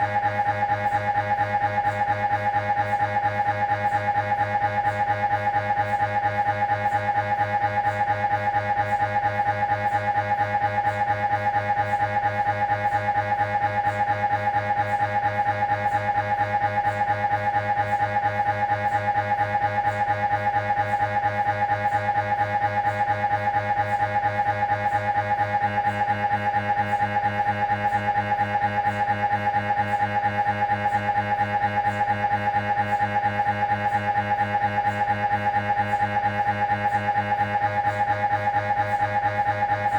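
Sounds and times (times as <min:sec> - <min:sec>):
mri scanner pulsing buzz: 0:00.0 - 0:39.9.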